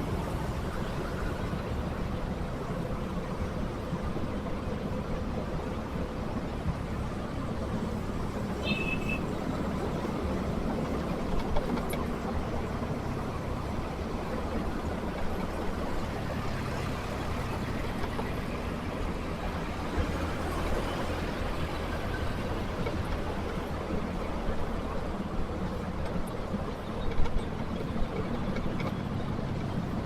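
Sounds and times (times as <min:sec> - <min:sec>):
surrounding traffic: 0:00.0 - 0:30.0
wind and road noise: 0:00.0 - 0:30.0.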